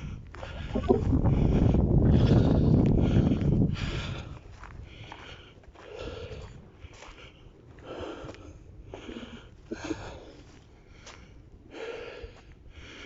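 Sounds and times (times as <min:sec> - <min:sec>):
person breathing close to microphone: 0:00.0 - 0:13.0.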